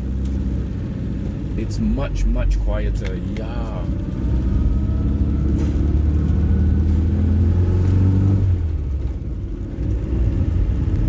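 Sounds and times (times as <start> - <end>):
car engine under throttle: 0.0 - 11.0.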